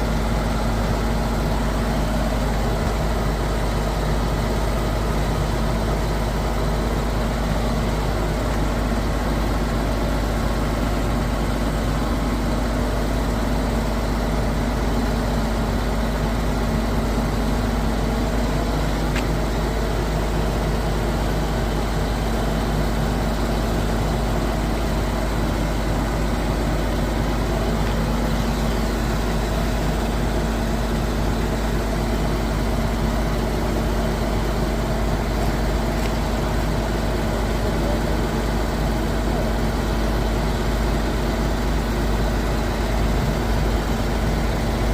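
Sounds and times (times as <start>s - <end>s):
heavy diesel engine droning: 0.0s - 44.9s.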